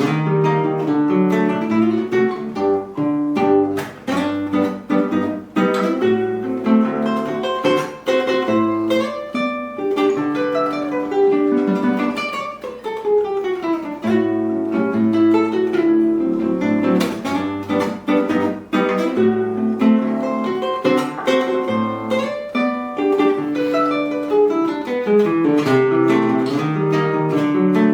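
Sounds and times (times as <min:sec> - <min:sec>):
acoustic guitar music: 0:00.0 - 0:27.9.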